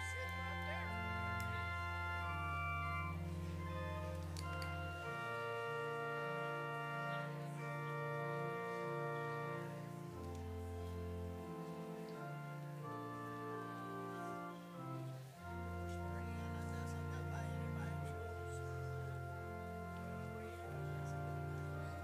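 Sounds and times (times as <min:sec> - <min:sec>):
church organ chords: 0:00.0 - 0:22.0.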